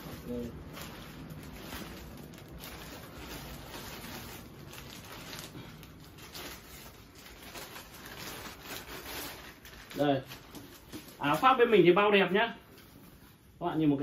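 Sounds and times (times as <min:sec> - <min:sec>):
plastic bag rustling: 0:00.0 - 0:13.6.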